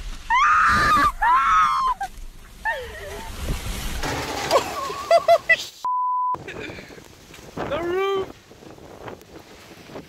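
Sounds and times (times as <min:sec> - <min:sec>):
storm wind and rain: 0:00.0 - 0:10.0.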